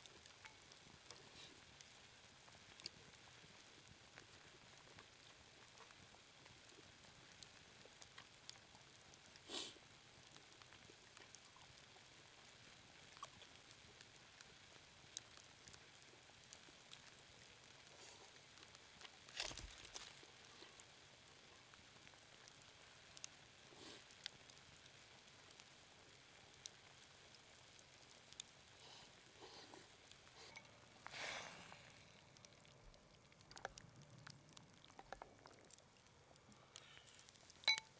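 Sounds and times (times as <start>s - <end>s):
light rain pattering: 0.0s - 37.9s.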